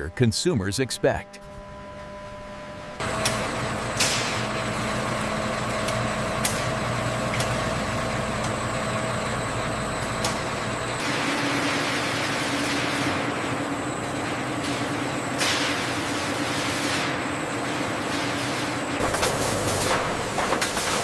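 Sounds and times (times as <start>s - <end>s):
heavy machinery humming: 0.0s - 21.0s.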